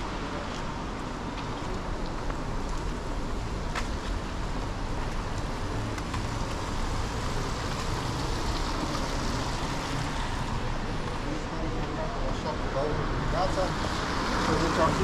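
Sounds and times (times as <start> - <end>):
road traffic hiss: 0.0 - 15.0.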